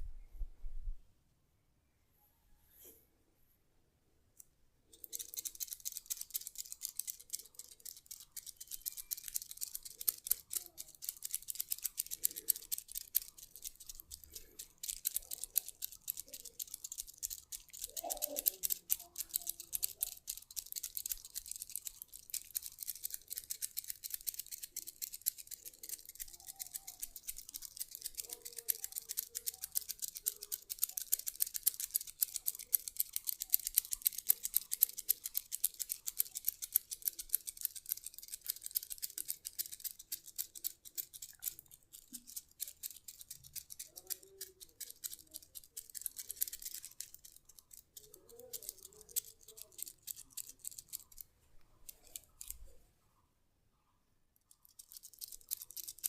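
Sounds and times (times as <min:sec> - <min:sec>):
massage tool scratching skin: 0:05.0 - 0:51.2.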